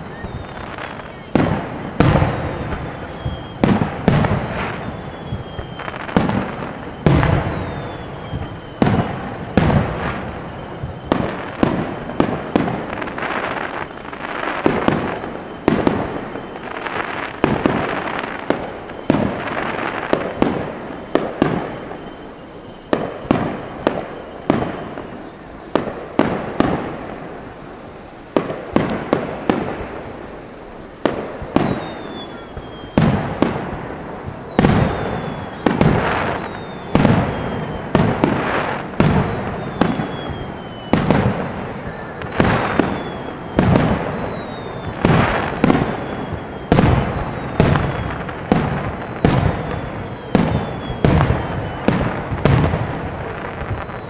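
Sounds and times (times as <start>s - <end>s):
falling fireworks whistles: 0.0s - 54.0s.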